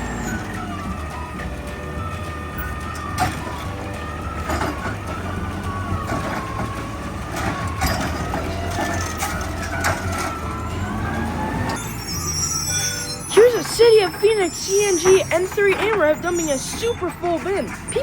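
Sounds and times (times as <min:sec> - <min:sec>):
garbage truck engine drone: 0:00.0 - 0:18.0
hydraulic whine: 0:00.0 - 0:18.0
metal arm and bin clanking: 0:00.0 - 0:18.0.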